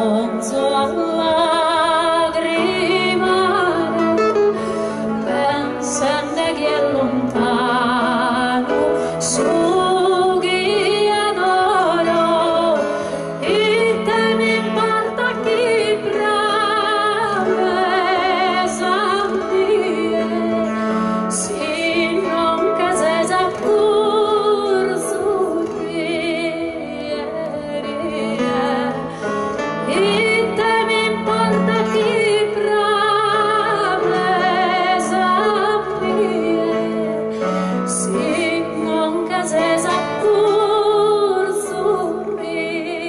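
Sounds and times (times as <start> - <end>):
acoustic guitar: 0.0 - 43.0
keyboard: 0.0 - 43.0
women singing duet: 0.0 - 43.0.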